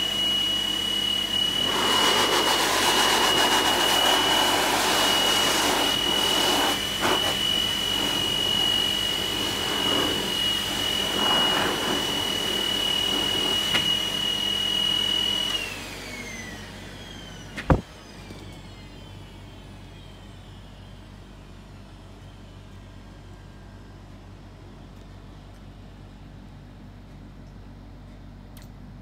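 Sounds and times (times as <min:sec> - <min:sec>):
dog dryer motor whine: 0:00.0 - 0:26.4.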